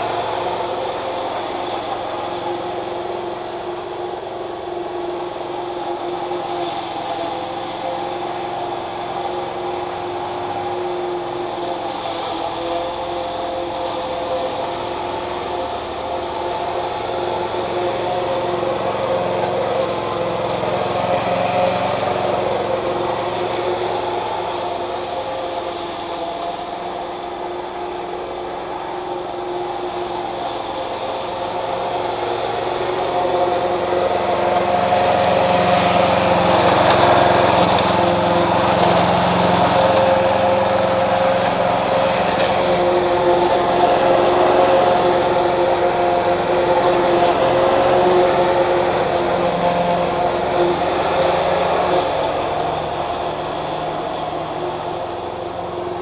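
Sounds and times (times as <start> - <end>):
lawn mower cutting grass: 0.0 - 56.0.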